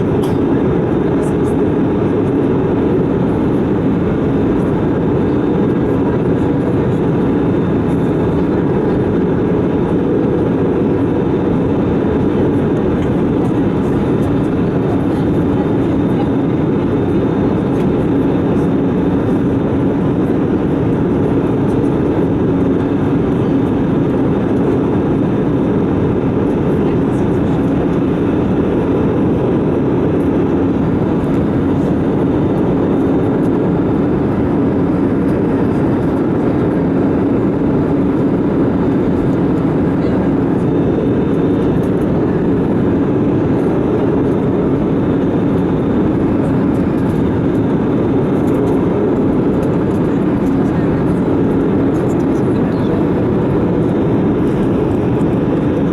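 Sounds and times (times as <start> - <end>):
airplane cabin engine noise: 0.0 - 55.9.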